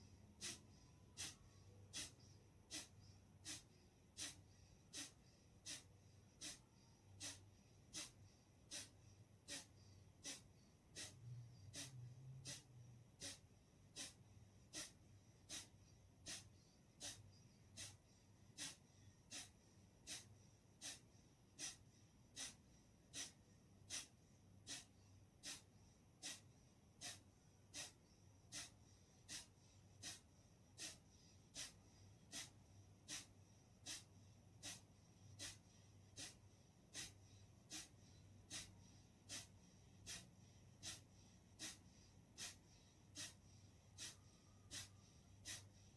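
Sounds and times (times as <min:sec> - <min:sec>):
quiet inhalations: 0:00.0 - 0:45.9.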